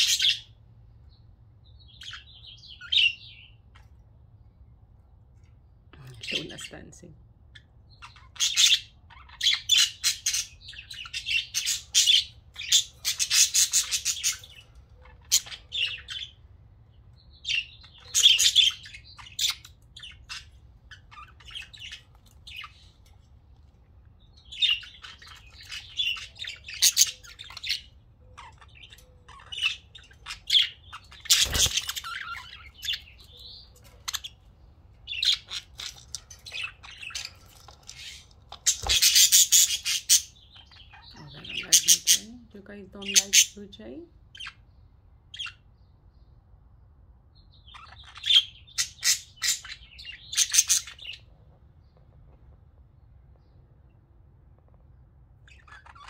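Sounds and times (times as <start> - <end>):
budgerigars chattering and chirping: 0.0 - 4.1, 5.6 - 45.7, 47.4 - 52.3, 55.4 - 56.0.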